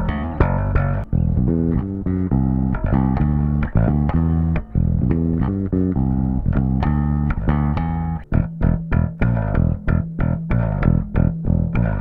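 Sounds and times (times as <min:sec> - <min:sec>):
electric bass riff: 0:00.0 - 0:12.0.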